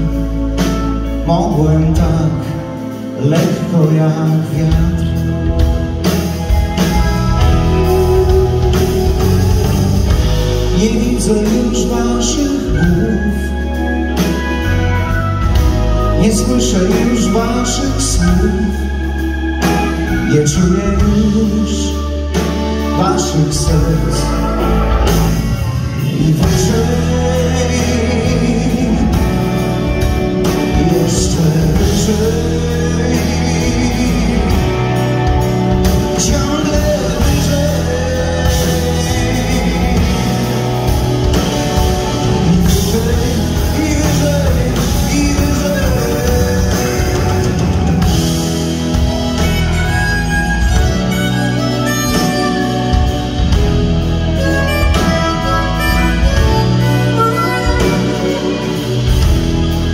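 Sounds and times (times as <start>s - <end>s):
bass guitar: 0.0s - 59.9s
drums: 0.0s - 59.9s
electric guitars: 0.0s - 59.9s.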